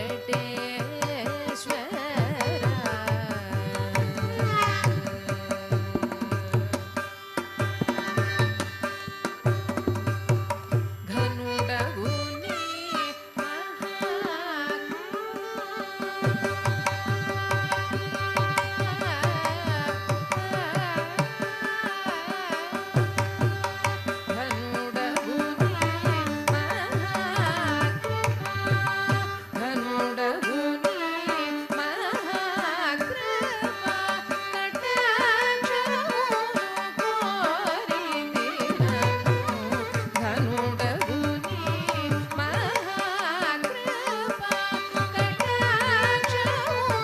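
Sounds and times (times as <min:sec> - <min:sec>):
hand drum rhythmic accompaniment: 0:00.0 - 0:12.6, 0:13.2 - 0:47.0.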